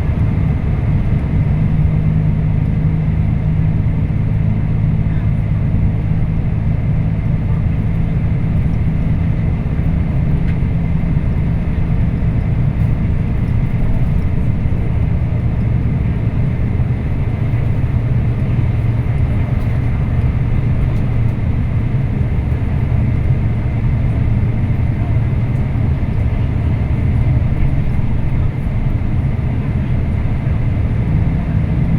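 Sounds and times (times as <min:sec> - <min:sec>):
coach engine drone: 0:00.0 - 0:31.9
road and tyre noise: 0:00.0 - 0:31.9.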